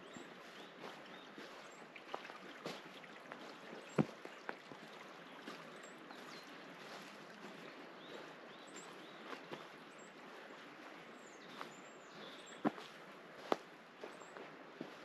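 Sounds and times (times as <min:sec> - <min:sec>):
water rushing in a canal: 0:00.0 - 0:15.0.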